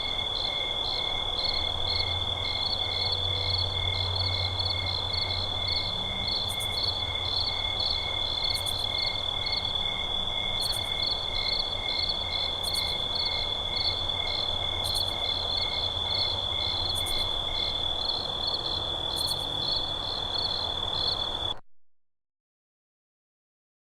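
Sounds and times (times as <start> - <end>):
frogs croaking: 0.0 - 21.5
insects trilling: 0.0 - 21.5.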